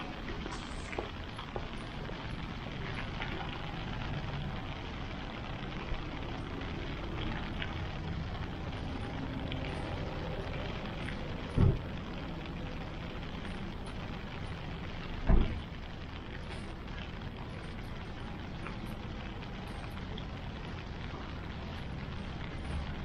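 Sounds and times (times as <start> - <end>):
traffic hiss and rumble: 0.0 - 23.0.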